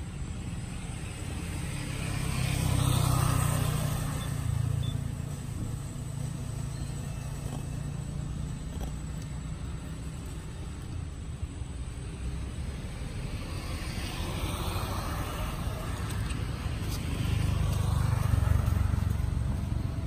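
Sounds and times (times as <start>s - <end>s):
vehicle engine hum: 0.0s - 20.0s.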